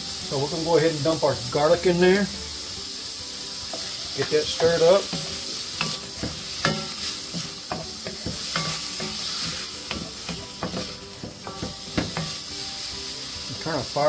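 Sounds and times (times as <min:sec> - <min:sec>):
vegetables sizzling in a skillet: 0:00.0 - 0:14.0.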